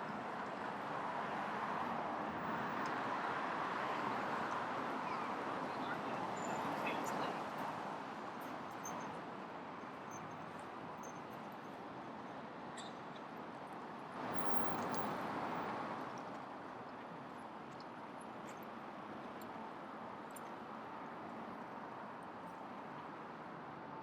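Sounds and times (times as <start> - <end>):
city street noise: 0.0 - 24.0.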